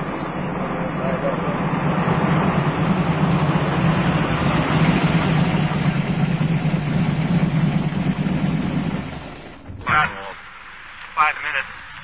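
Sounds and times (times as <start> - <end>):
car engine low drone: 0.0 - 12.0
constant rushing noise: 0.0 - 12.0.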